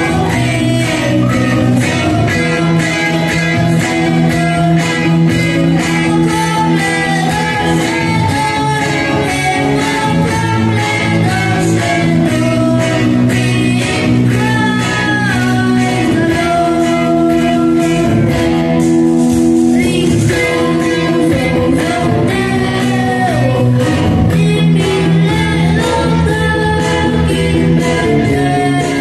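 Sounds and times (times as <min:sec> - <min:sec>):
instrumental accompaniment: 0:00.0 - 0:29.0
person singing: 0:00.0 - 0:29.0.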